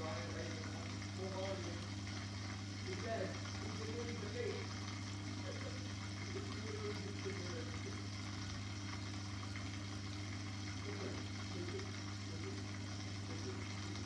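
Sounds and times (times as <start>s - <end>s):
aquarium pump humming: 0.0s - 14.0s
water trickling: 0.0s - 14.0s.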